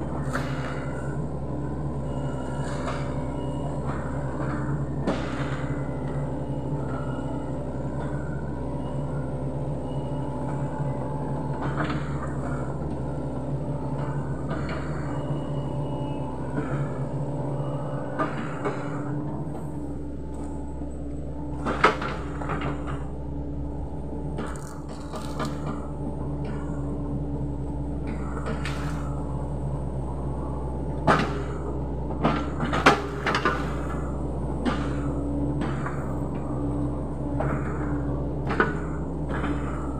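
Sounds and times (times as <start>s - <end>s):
excavator diesel engine under load: 0.0s - 39.9s
hydraulics working: 0.0s - 39.9s.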